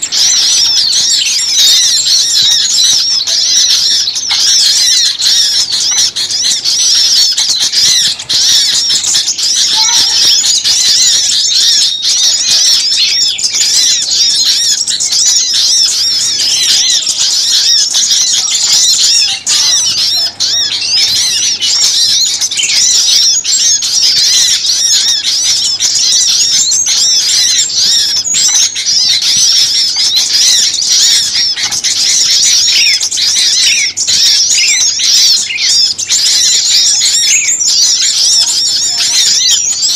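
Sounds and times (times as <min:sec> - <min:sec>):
chorus of songbirds chattering: 0:00.0 - 0:39.9.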